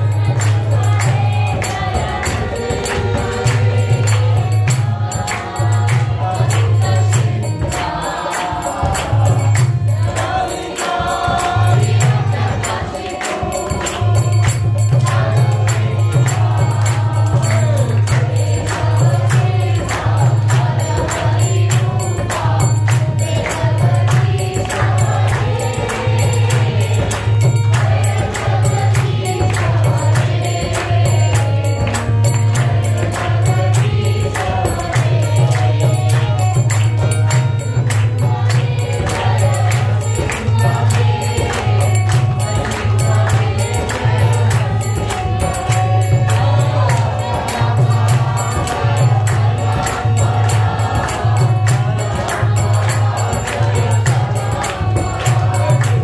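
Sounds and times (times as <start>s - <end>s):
group chanting: 0.0s - 56.0s
jingling percussion: 0.0s - 56.0s.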